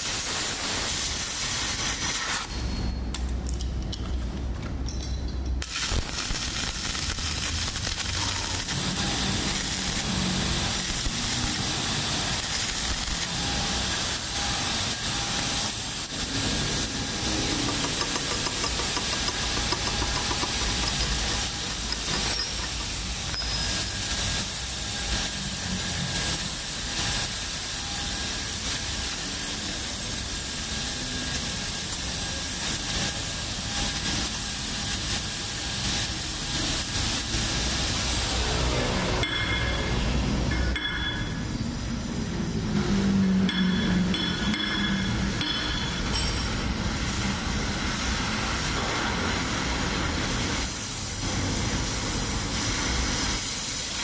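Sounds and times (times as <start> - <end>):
gas torch flame hissing: 0.0 - 2.5, 5.6 - 39.3, 46.7 - 54.0.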